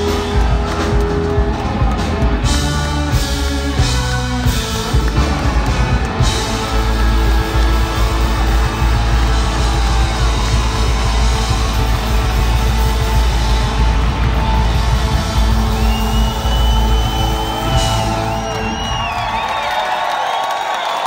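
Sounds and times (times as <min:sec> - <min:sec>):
electric guitar: 0:00.0 - 0:19.3
live rock band playing: 0:00.0 - 0:19.5.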